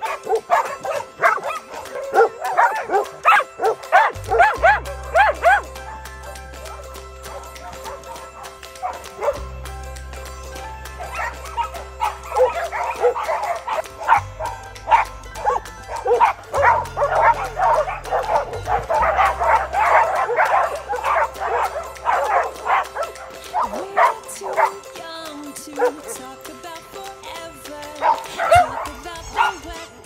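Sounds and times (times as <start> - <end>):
dogs barking and yipping: 0.0 - 30.0
background music with bass line: 0.2 - 24.9.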